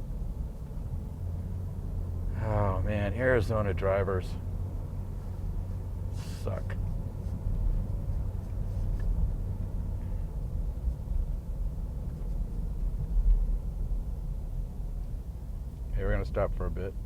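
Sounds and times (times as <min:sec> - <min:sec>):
car tyre road rumble: 0:00.0 - 0:17.0.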